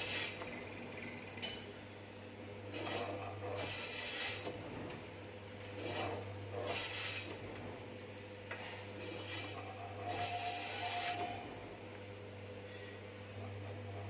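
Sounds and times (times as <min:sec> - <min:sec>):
meat slicer humming: 0:00.0 - 0:14.0.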